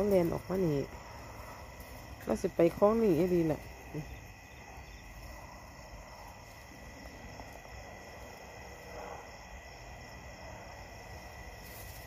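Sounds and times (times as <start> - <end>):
dry grass rustling: 0.0 - 9.1, 9.8 - 12.0
crickets trilling: 0.0 - 12.0.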